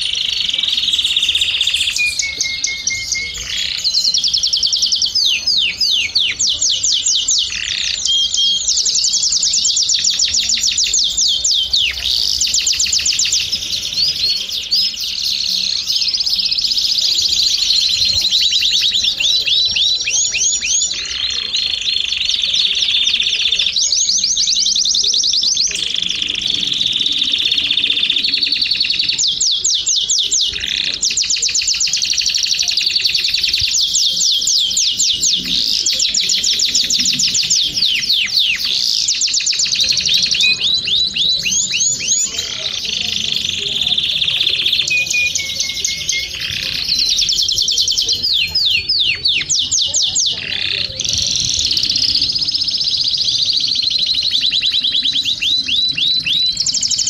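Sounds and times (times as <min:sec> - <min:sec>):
canary singing fast trills: 0:00.0 - 0:57.0.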